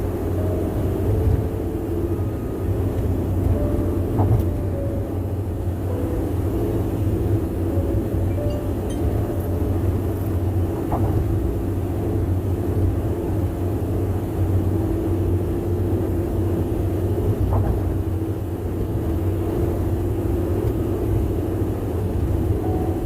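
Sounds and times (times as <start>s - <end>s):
car tyres on road: 0.0s - 23.0s.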